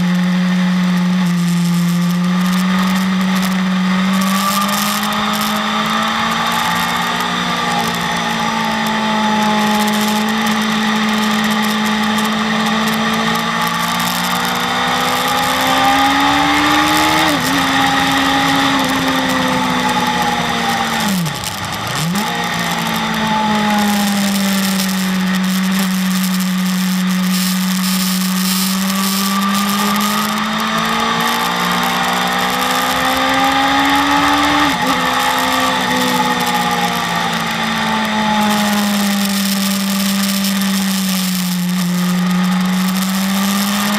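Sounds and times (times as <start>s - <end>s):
motorcycle engine at high revs: 0.0s - 43.9s.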